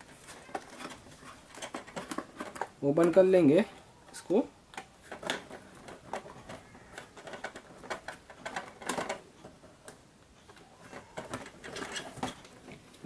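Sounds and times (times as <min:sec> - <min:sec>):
cardboard packaging clicks and scrapes: 0:00.0 - 0:03.2, 0:04.8 - 0:13.0.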